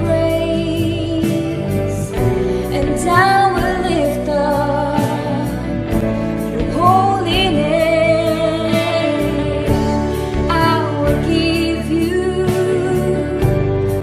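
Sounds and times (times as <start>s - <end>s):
worship song singing: 0.0s - 14.0s.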